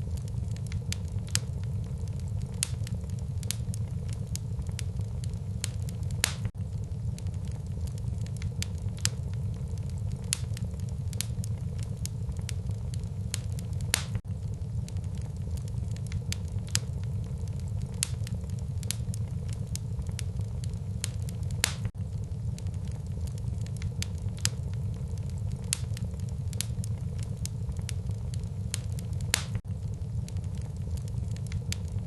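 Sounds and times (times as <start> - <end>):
flames rumbling: 0.0 - 32.0
logs crackling and popping: 0.0 - 32.0.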